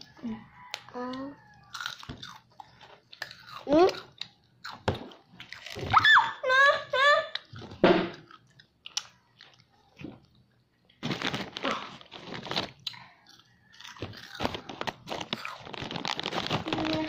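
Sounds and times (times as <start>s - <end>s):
crunchy food being chewed: 0.0s - 5.9s, 7.4s - 17.0s.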